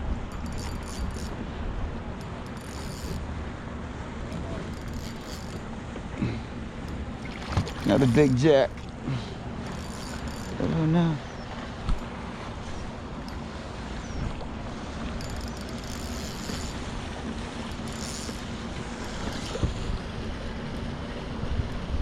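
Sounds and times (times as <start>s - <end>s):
water lapping: 0.0s - 22.0s.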